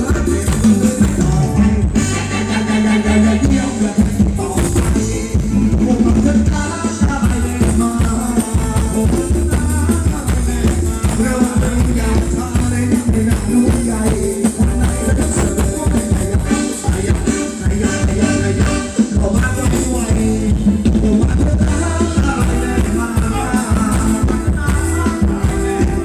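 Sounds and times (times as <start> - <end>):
live band dance music: 0.0 - 26.0
steady drum beat: 0.0 - 26.0.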